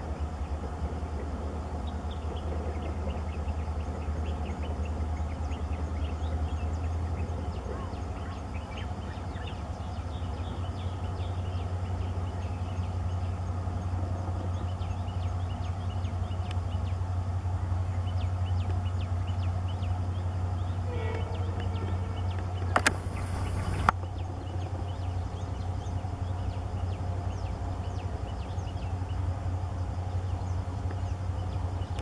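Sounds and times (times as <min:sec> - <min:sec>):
birds chirping: 0:00.0 - 0:32.0
diesel locomotive engine droning: 0:00.0 - 0:32.0.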